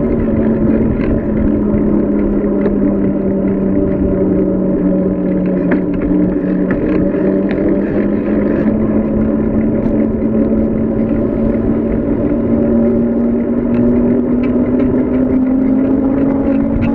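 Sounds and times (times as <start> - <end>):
steady low hum: 0.0 - 16.9
wind rushing over microphone: 0.0 - 16.9.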